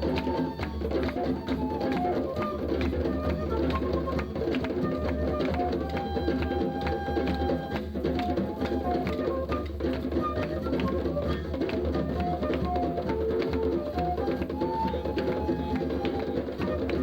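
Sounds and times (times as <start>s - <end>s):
pitched percussion notes: 0.0s - 17.0s.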